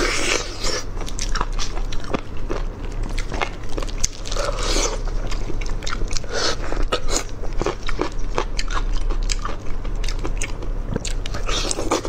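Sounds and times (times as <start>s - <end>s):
close chewing and biting: 0.0s - 12.0s.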